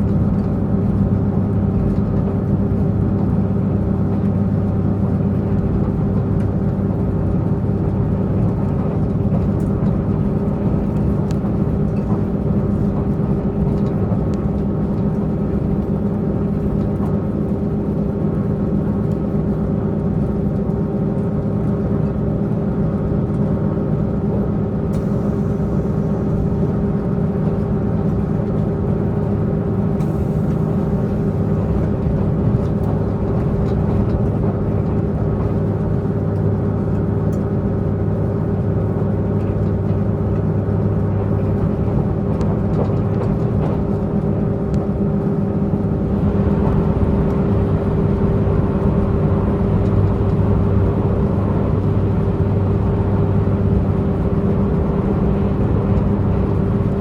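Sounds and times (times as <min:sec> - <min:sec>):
moving train rumble: 0:00.0 - 0:57.0
train diesel engine running: 0:00.0 - 0:57.0.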